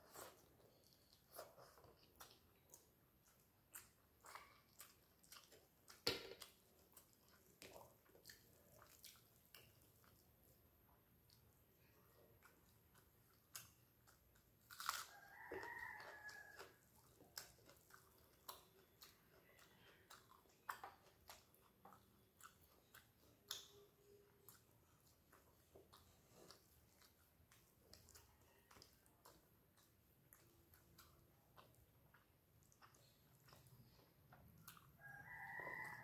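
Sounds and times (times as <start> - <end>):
chewing food: 0.0 - 36.0.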